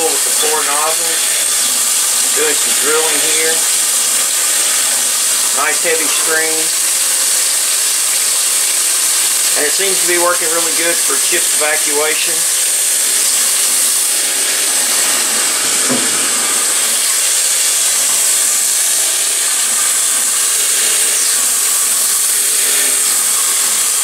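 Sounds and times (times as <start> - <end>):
coolant spraying and splashing: 0.0 - 24.0
mill spindle running: 0.0 - 24.0.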